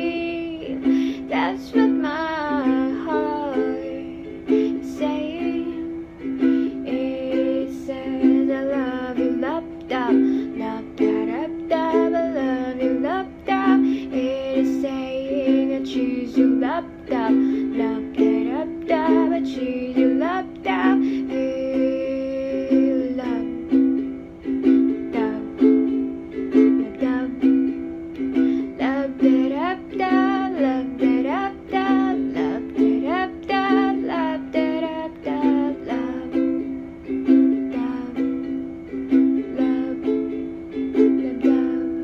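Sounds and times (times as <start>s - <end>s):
ukulele strumming chords: 0.0s - 42.0s.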